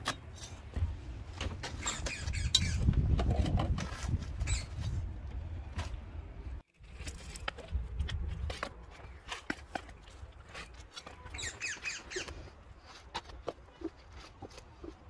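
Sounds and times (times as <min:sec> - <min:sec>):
soil and plastic crackles: 0:00.0 - 0:15.0.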